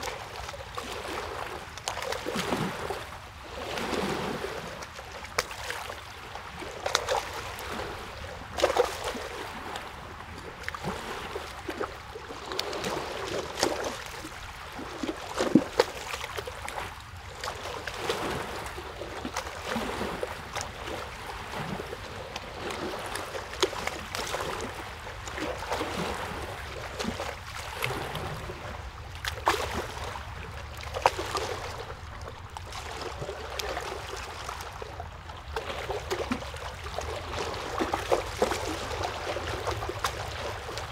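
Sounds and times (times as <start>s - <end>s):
small water splashes: 0.0s - 40.9s
water lapping and trickling: 0.0s - 40.9s.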